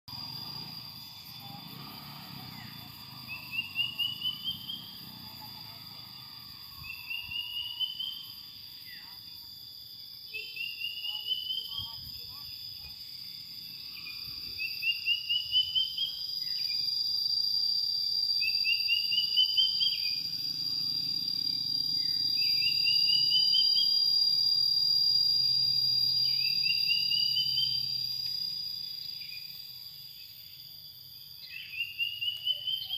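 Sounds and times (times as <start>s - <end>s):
insects shrilling: 0.1s - 32.9s.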